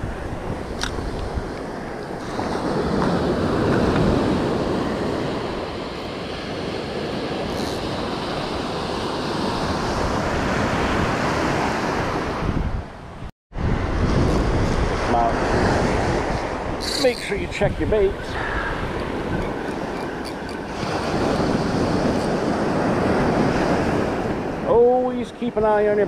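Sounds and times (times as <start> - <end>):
wind buffeting microphone: 0.0 - 24.7
surf breaking on beach: 2.2 - 12.5, 13.6 - 19.9, 20.6 - 25.1.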